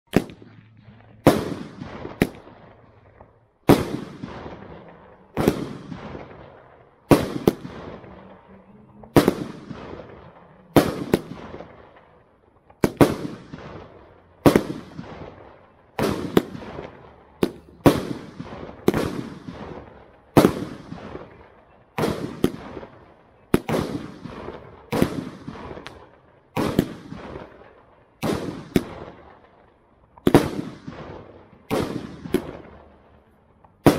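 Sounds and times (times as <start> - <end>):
firework shots banging: 0.1 - 33.9.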